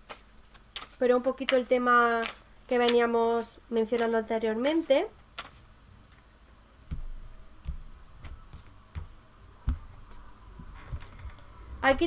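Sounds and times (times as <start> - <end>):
cards tapping and knocking: 0.0 - 6.3, 6.9 - 11.5.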